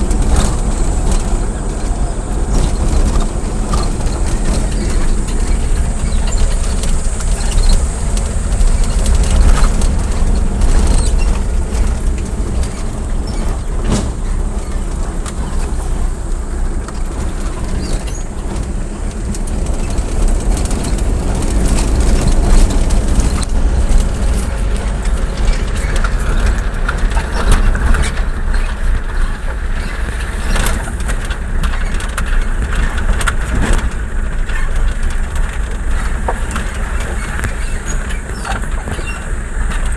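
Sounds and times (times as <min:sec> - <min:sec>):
rattles and knocks: 0:00.0 - 0:39.9
road vehicle rumble: 0:00.0 - 0:39.9.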